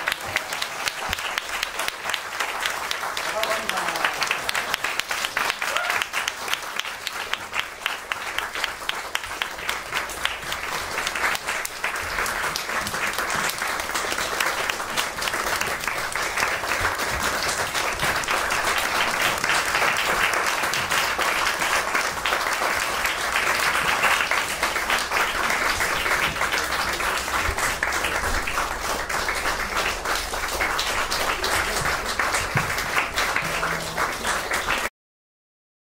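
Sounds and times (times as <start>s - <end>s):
audience applauding: 0.0s - 34.9s.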